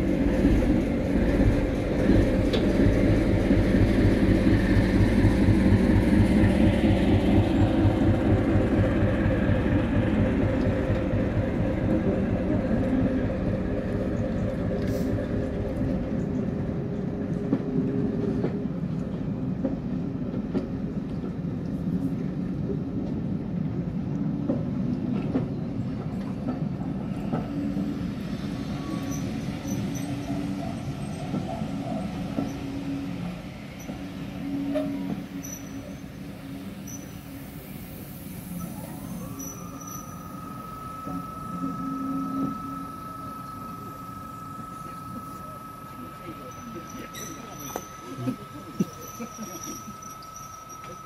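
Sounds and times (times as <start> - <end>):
diesel locomotive engine beat: 0.0 - 51.0.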